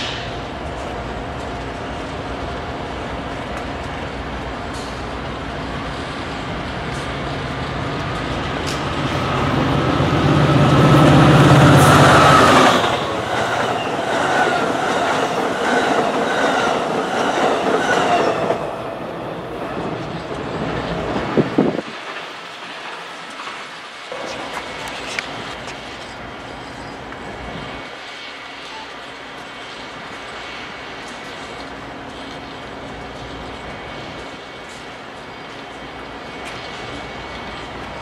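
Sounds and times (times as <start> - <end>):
diesel train passing: 0.0 - 38.0.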